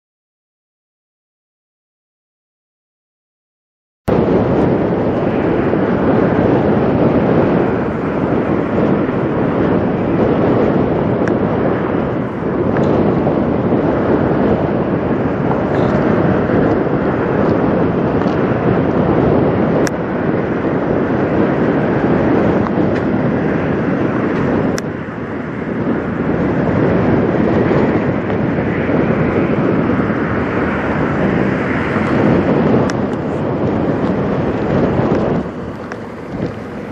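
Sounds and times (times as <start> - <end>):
wind noise on microphone: 4.1 - 36.9.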